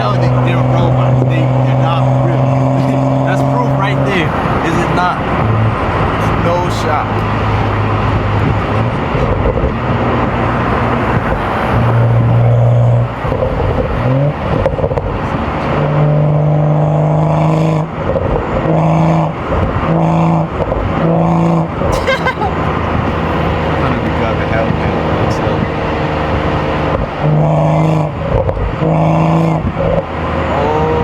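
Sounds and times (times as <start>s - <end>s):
car engine accelerating: 0.0s - 31.0s
road and wind noise: 0.0s - 31.0s.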